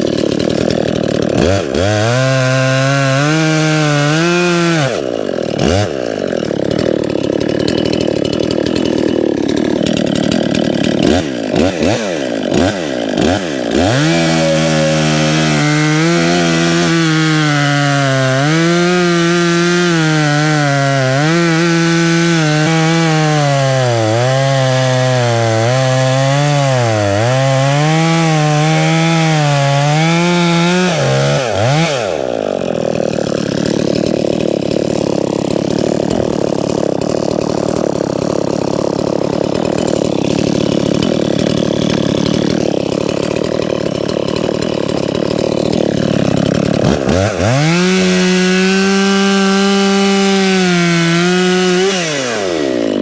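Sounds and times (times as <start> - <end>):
chainsaw running at high revs: 0.0 - 53.0
rough sawing noise: 0.0 - 53.0.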